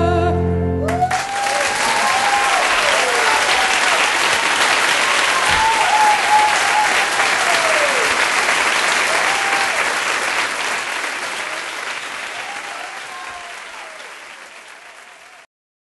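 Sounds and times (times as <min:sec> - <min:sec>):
audience applause: 0:00.8 - 0:15.5
cheering calls: 0:00.8 - 0:15.5.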